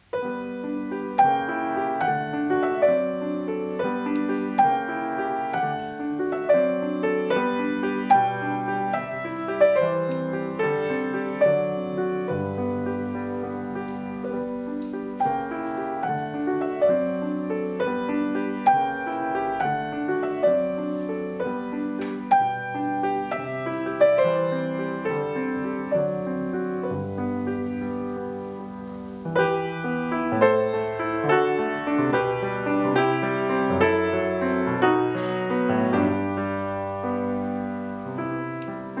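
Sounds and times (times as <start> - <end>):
classical piano piece: 0.0 - 39.0.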